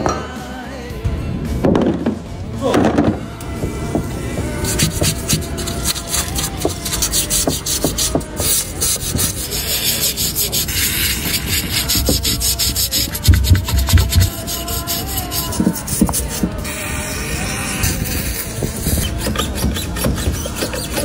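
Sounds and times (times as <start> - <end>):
abrasive rubbing strokes: 3.6 - 21.0.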